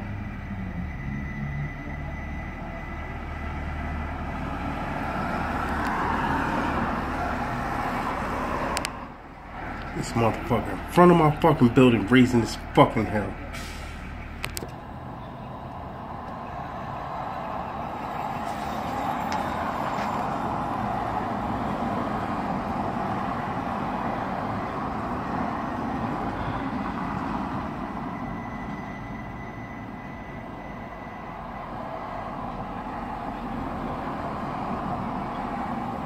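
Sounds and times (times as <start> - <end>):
car traffic passing: 0.0 - 36.0.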